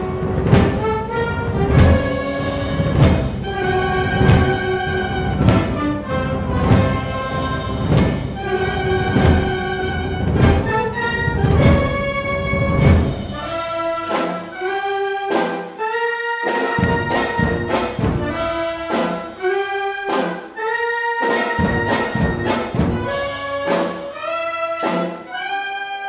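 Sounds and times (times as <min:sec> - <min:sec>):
heavy percussion strikes: 0:00.0 - 0:14.6, 0:16.6 - 0:19.5, 0:21.3 - 0:25.2
wind band playing a solemn march: 0:00.0 - 0:26.0.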